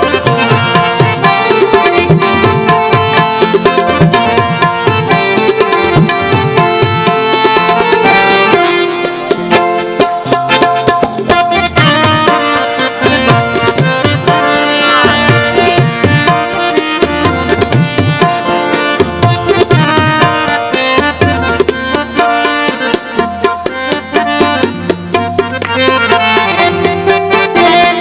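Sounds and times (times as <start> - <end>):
melody over busy drum rhythm: 0.0 - 28.0.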